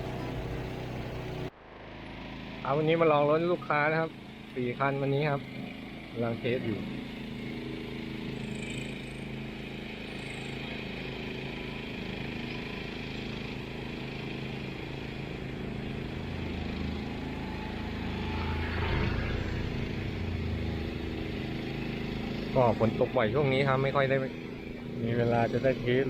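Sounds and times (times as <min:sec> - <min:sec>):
ride-on lawn mower engine running: 0:00.0 - 0:26.0.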